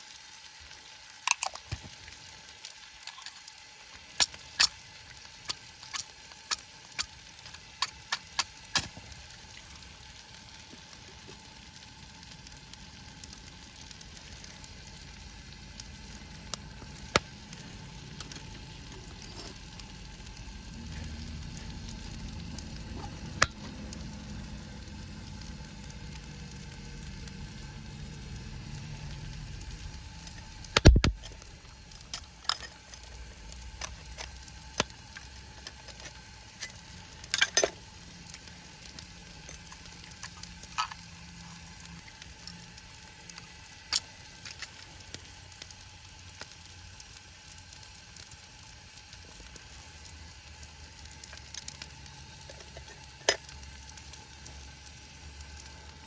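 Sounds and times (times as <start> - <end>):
steady sizzling hiss: 0.0 - 56.0.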